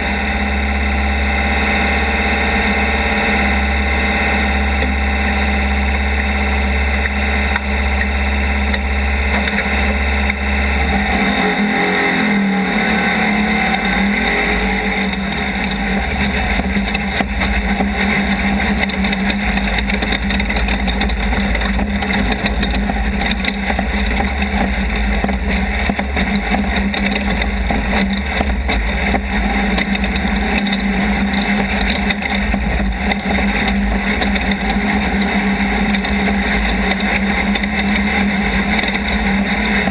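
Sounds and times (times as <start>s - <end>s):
race vehicle engine running hard: 0.0s - 39.9s.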